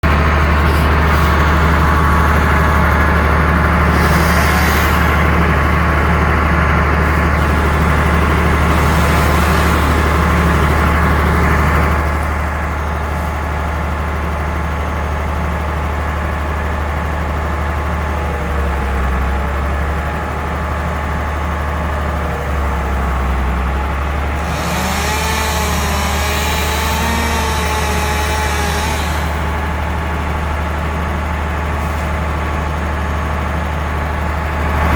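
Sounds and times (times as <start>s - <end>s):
truck engine droning: 0.0s - 34.9s.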